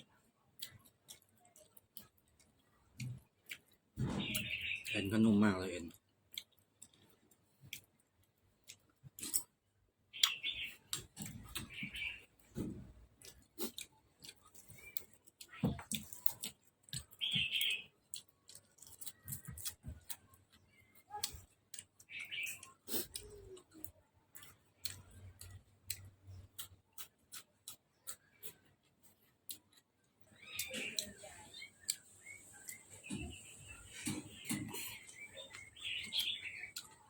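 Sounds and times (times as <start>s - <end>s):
chewing: 0.0s - 4.6s, 5.9s - 37.0s.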